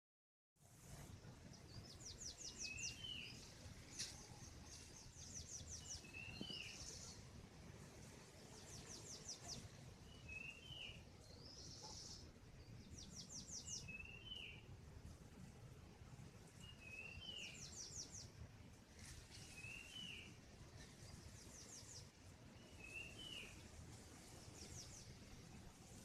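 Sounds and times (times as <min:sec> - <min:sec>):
songbird singing: 0:00.8 - 0:26.0.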